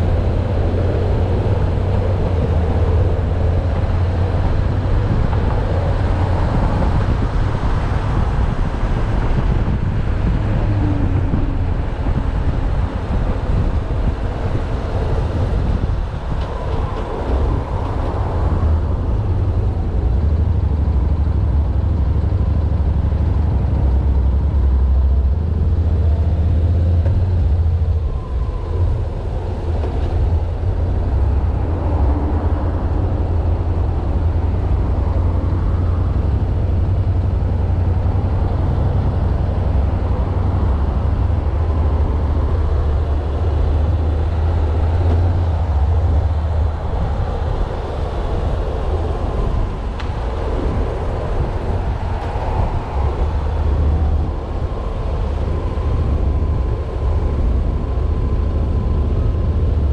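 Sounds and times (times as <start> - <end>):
road noise: 0.0 - 59.9
wind rush: 0.0 - 59.9.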